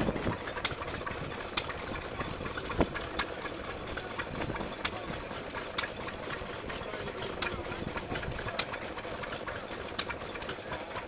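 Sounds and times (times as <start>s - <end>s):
stationary engine exhaust bangs: 0.0s - 10.8s
low mechanical clatter: 0.0s - 11.0s.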